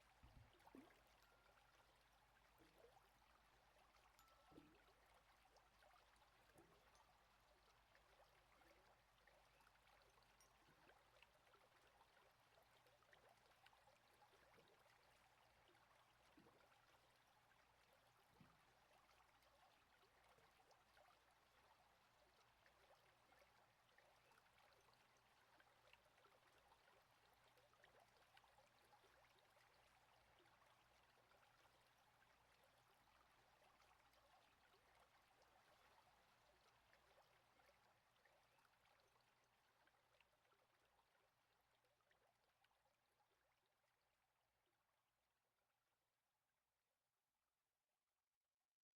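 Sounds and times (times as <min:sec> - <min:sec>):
flowing stream: 0:00.0 - 0:44.2
water trickles and drips: 0:00.0 - 0:45.2.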